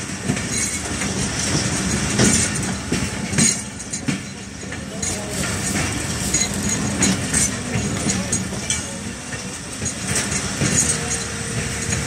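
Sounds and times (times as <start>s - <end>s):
train rumbling: 0.0s - 12.0s
wheels clicking on track: 0.0s - 12.0s.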